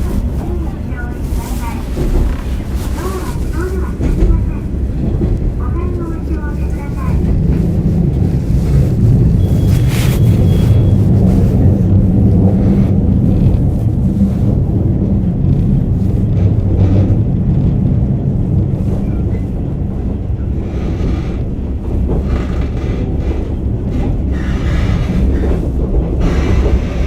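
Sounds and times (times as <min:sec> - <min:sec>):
railcar engine drone: 0:00.0 - 0:27.0
train running rumble: 0:00.0 - 0:27.0.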